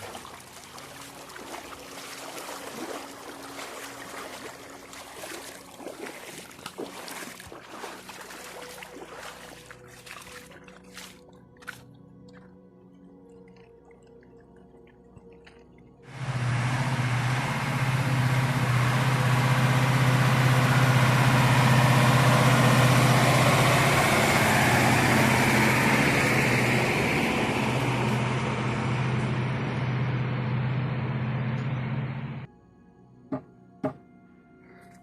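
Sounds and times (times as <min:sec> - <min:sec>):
motor vehicle running: 0:00.0 - 0:12.5, 0:14.8 - 0:32.5.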